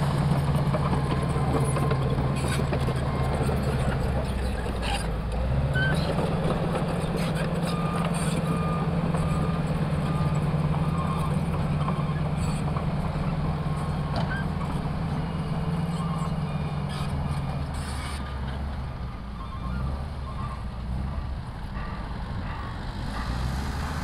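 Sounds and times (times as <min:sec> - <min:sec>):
diesel truck engines running: 0:00.0 - 0:24.0.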